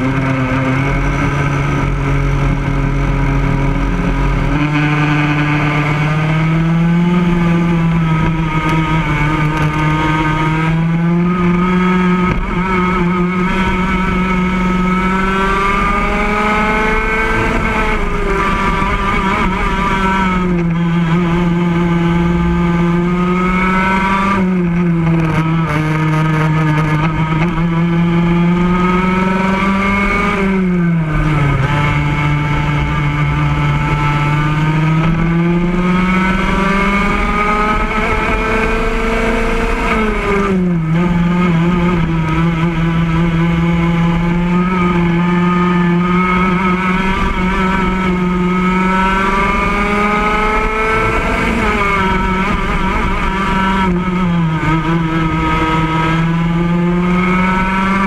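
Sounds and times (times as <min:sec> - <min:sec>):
kart engine at full throttle: 0:00.0 - 0:58.0.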